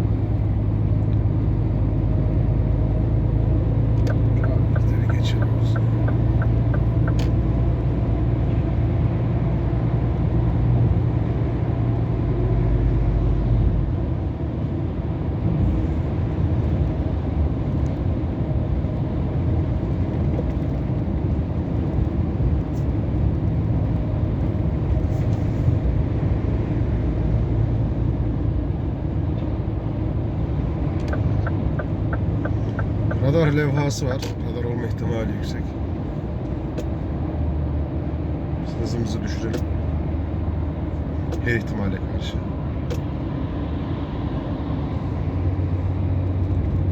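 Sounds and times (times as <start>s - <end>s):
truck engine drone in cab: 0.0s - 46.9s.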